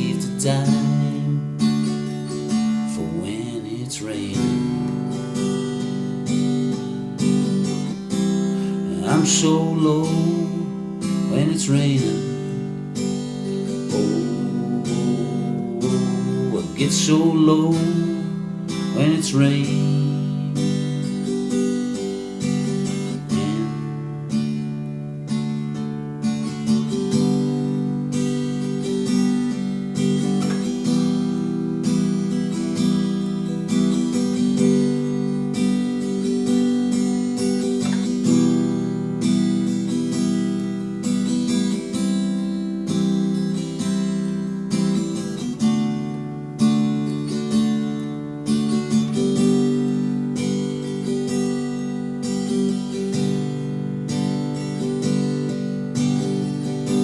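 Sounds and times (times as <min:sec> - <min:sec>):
acoustic guitar strumming chords: 0:00.0 - 0:57.0.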